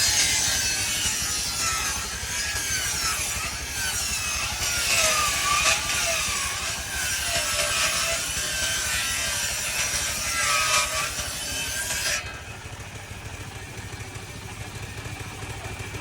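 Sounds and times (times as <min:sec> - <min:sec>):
saw cutting through wood: 0:00.0 - 0:16.0.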